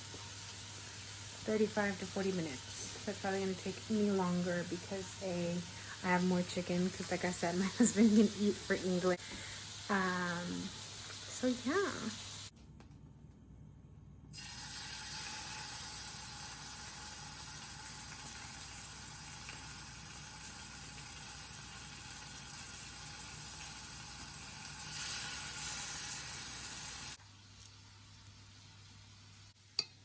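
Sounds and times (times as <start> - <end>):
food sizzling in a frying pan: 0.0 - 12.5, 14.4 - 30.0.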